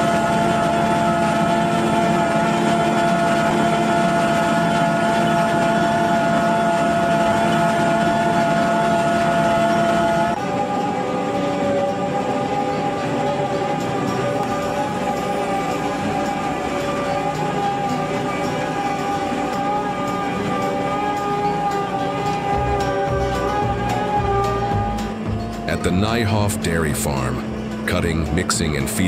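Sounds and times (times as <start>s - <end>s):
engine noise: 0.0s - 29.0s
feed mixer machine whine: 0.0s - 29.0s.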